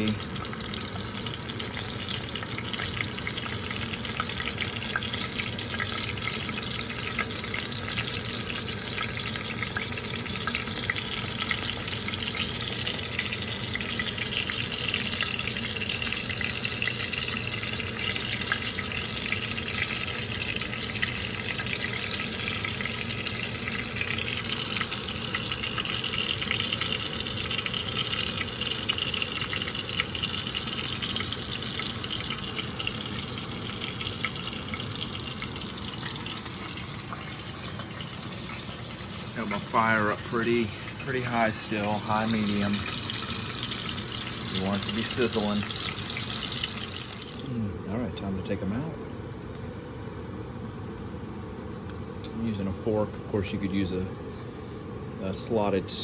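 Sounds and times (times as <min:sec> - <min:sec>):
mushrooms frying in hot oil: 0:00.0 - 0:56.0.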